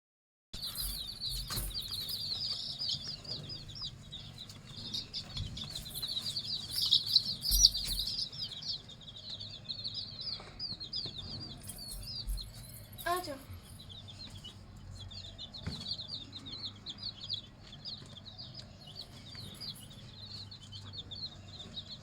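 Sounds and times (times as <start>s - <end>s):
chicks peeping: 0.6s - 22.0s.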